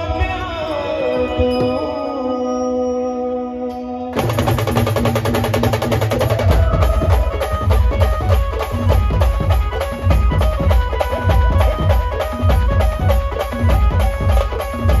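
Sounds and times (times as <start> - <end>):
loud band music through speakers: 0.0 - 15.0.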